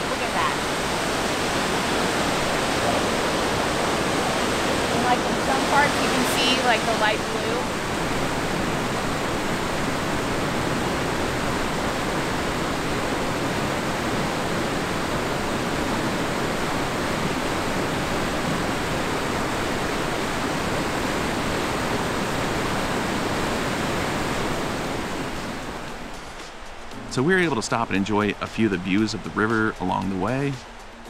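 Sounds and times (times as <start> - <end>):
mountain river rushing: 0.0 - 31.0.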